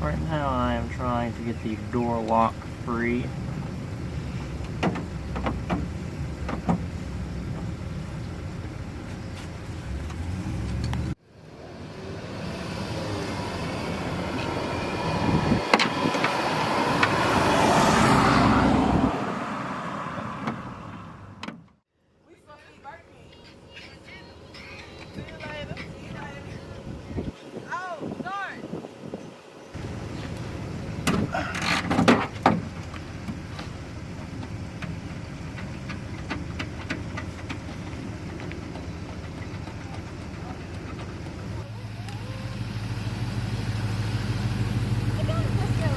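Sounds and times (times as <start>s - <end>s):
road vehicle passing: 0.0s - 27.6s, 28.8s - 45.9s.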